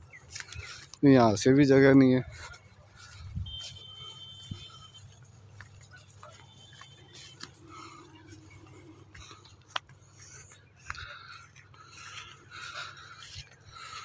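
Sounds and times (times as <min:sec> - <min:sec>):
crop plants rustling: 0:00.0 - 0:14.0
footsteps through field: 0:00.0 - 0:14.0.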